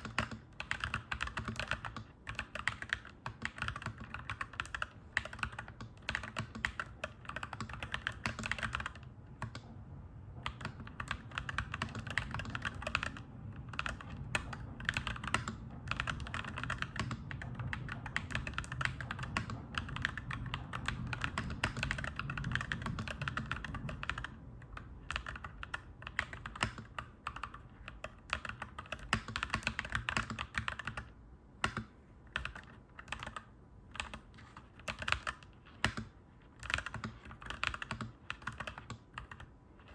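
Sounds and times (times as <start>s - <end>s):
mechanical keyboard typing: 0.0s - 9.7s, 10.4s - 39.9s.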